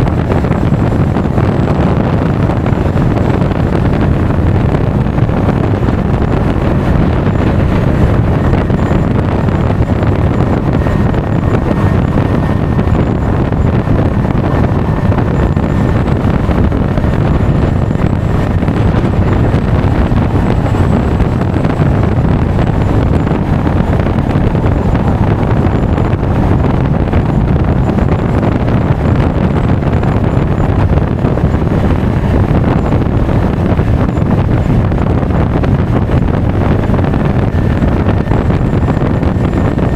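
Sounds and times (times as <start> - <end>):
scooter engine and road noise: 0.0 - 39.9
wind rush on microphone: 0.0 - 39.9.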